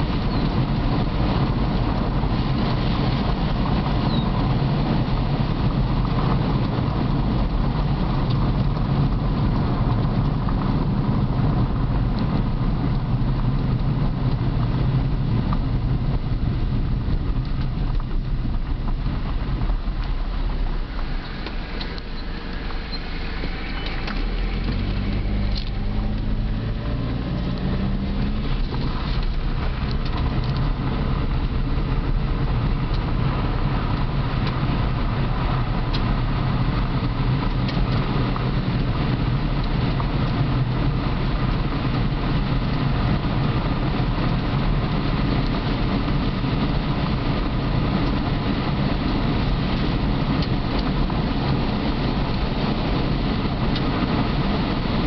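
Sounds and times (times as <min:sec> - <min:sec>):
car engine accelerating: 0:00.0 - 0:55.0
tyres rumbling on gravel: 0:00.0 - 0:55.0.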